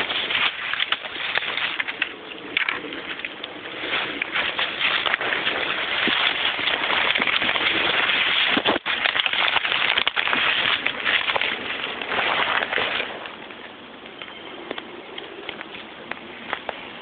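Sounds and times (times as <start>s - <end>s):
leaves and brush rustling: 0.0s - 17.0s.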